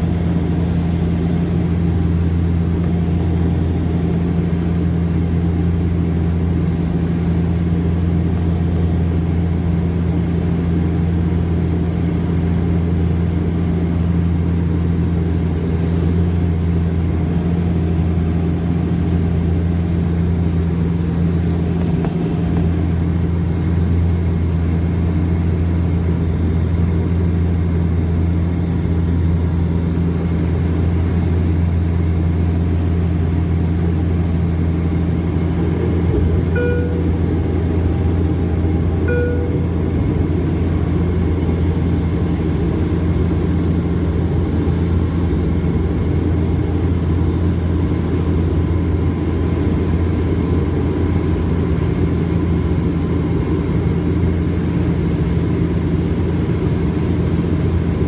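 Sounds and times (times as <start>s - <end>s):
propeller drone: 0.0s - 58.0s.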